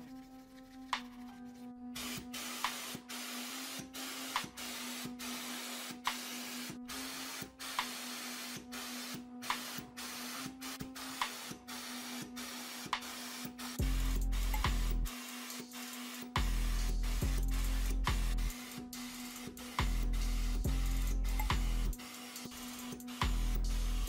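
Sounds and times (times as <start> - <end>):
paint sprayer hissing in bursts: 2.0 - 24.0.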